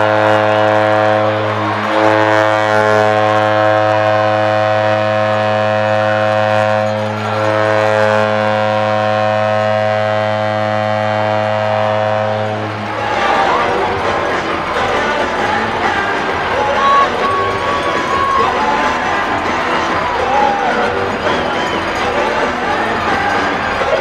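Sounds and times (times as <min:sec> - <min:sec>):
crowd cheering: 0:00.0 - 0:24.0
goal horn blast: 0:00.0 - 0:24.0.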